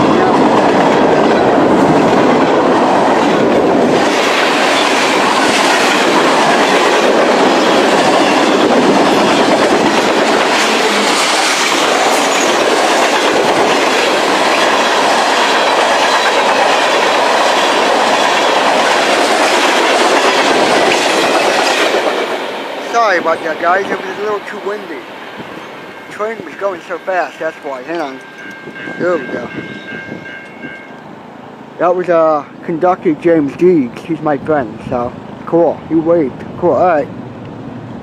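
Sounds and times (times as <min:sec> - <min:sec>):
freight train wheels clacking: 0:00.0 - 0:31.2.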